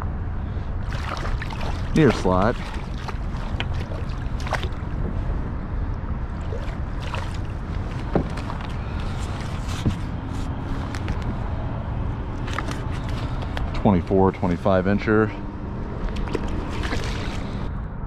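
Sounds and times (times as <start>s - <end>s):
wind and water rumble: 0.0s - 18.0s.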